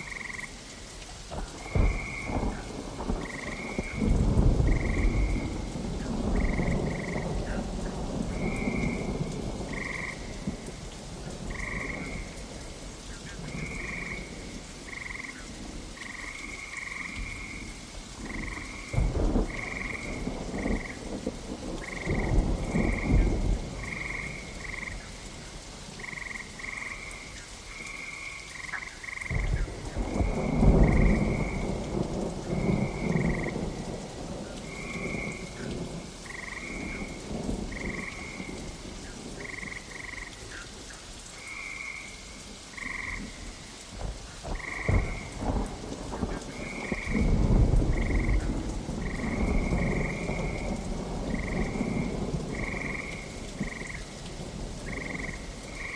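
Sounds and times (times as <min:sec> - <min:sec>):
frogs croaking: 0:00.0 - 0:55.9
steady rain: 0:00.0 - 0:55.9
thunder rumbling: 0:01.3 - 0:12.7, 0:13.3 - 0:27.1, 0:28.7 - 0:40.4, 0:42.7 - 0:55.9.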